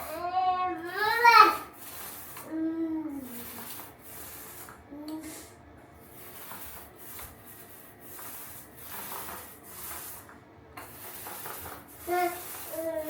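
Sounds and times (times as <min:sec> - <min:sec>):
rubbing strokes over a surface: 0:00.0 - 0:13.0.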